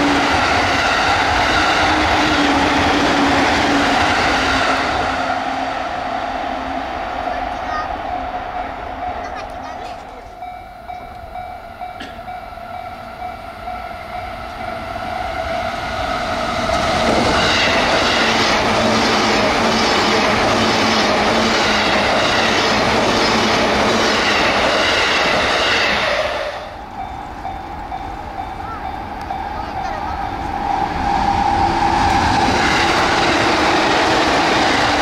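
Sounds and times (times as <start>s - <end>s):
electric train passing at speed: 0.0s - 35.0s.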